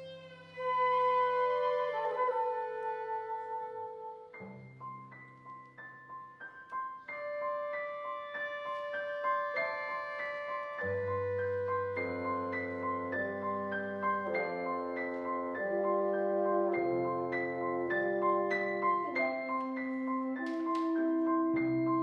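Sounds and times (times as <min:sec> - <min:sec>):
piano repeated notes: 0:00.0 - 0:22.0.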